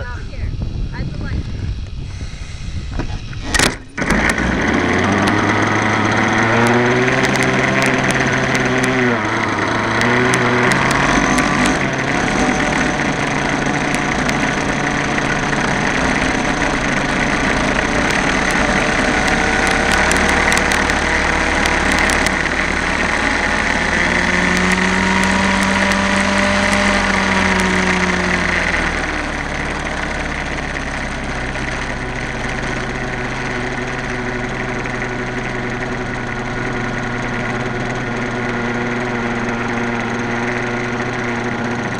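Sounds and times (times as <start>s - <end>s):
model helicopter engine running: 0.0s - 41.9s.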